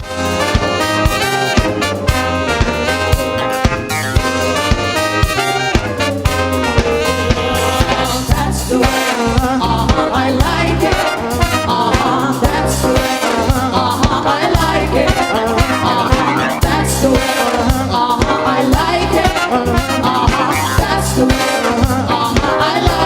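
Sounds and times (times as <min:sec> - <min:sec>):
brass section playing: 0:00.0 - 0:23.0
pop music with drum beat: 0:00.0 - 0:23.0.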